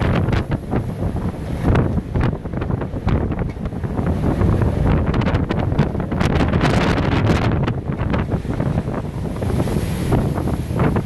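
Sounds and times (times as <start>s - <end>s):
blizzard wind buffeting microphone: 0.0s - 11.0s.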